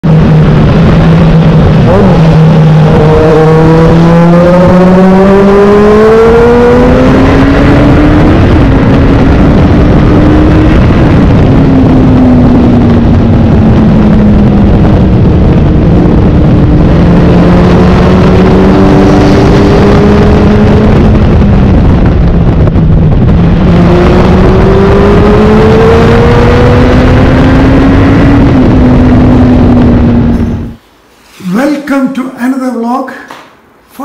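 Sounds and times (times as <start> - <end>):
motorcycle engine accelerating: 0.0 - 30.8
wind rush on microphone: 0.0 - 30.8.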